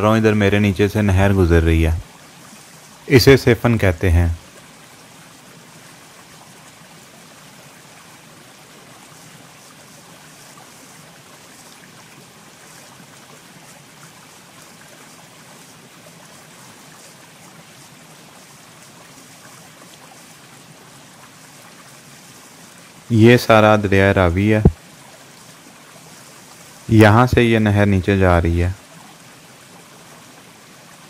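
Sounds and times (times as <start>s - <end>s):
water flowing: 0.0s - 31.0s.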